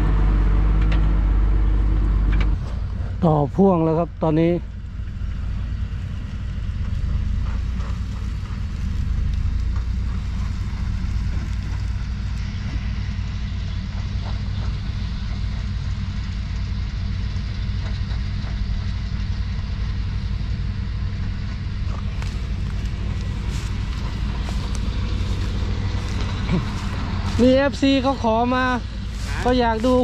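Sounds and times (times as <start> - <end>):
diesel truck engine rumble: 0.0 - 30.0.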